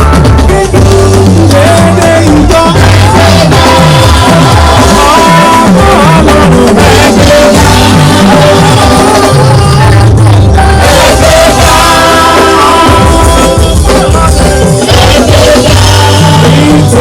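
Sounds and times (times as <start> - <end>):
loud music with drums: 0.0 - 17.0
sliding bass line: 0.0 - 17.0.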